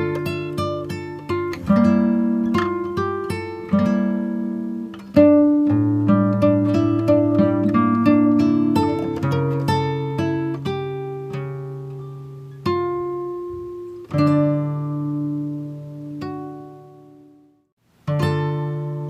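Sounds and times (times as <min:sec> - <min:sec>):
plucked acoustic guitar: 0:00.0 - 0:19.0.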